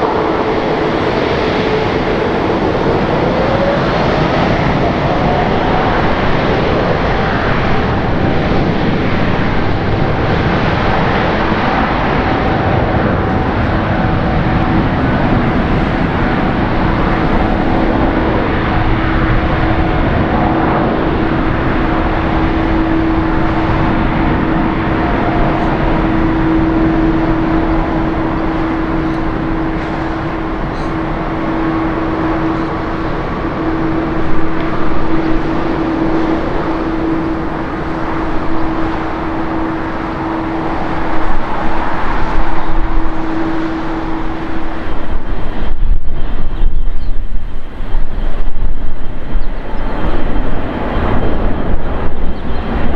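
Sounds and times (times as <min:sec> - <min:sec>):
jet engines at takeoff thrust: 0:00.0 - 0:52.9.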